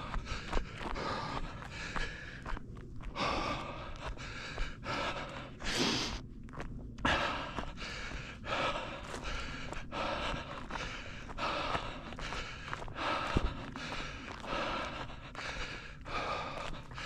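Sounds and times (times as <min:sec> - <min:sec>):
runner breathing hard: 0:00.0 - 0:17.0.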